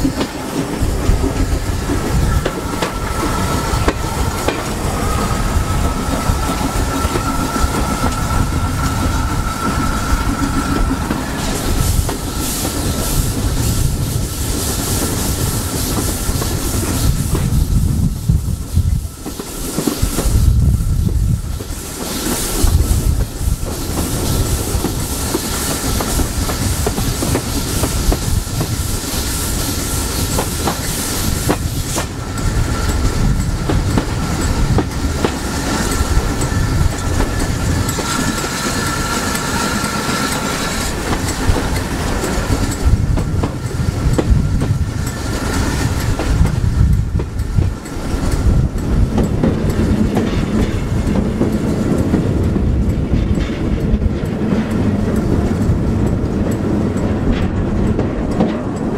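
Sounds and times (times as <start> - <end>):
train rumble: 0.0 - 58.9
train wheels clicking over rail joints: 0.0 - 58.9.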